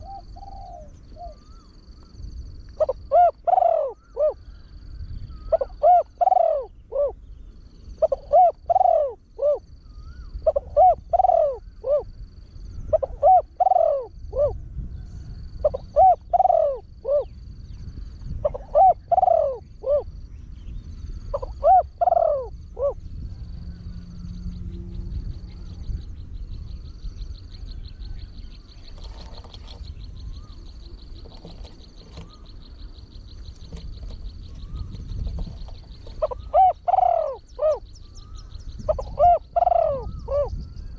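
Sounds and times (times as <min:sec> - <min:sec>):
dove cooing: 0:00.0 - 0:14.6, 0:15.4 - 0:17.5, 0:18.1 - 0:20.3, 0:21.1 - 0:40.9.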